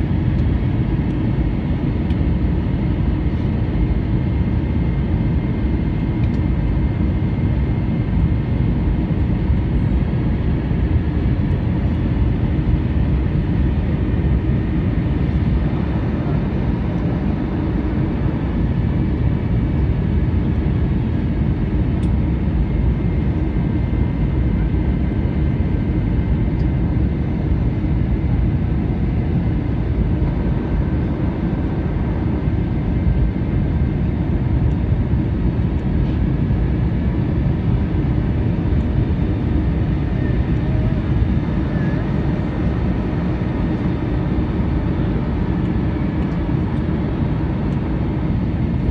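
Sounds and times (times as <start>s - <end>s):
jet engines rumbling: 0.0s - 48.9s.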